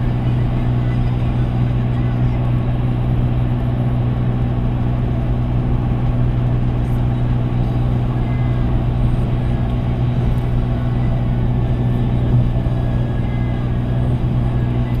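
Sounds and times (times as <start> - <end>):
car cabin drone at speed: 0.0 - 15.0.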